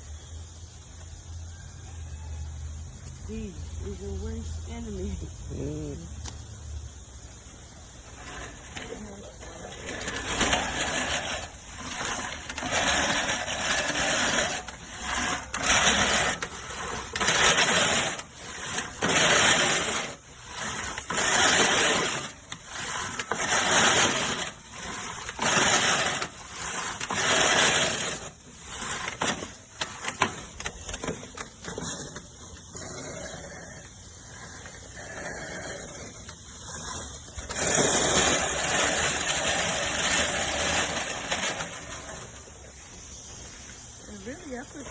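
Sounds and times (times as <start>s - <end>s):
reel lawn mower whirring: 0.0s - 44.9s.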